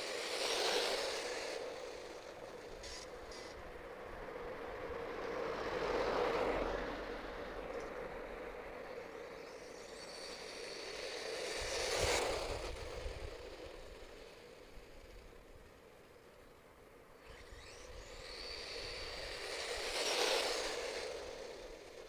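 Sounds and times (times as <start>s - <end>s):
high motor whine: 0.0s - 22.0s
rc truck driving past: 0.0s - 22.0s.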